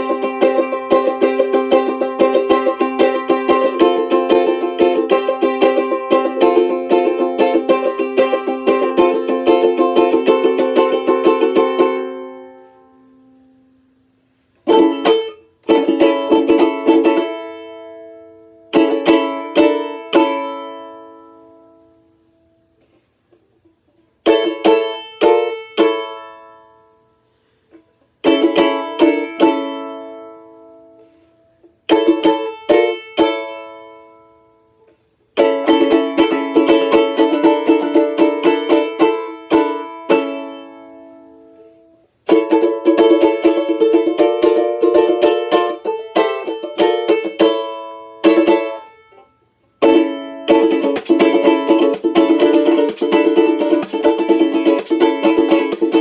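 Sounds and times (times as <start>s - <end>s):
banjo-ukulele strummed: 0.0s - 56.0s.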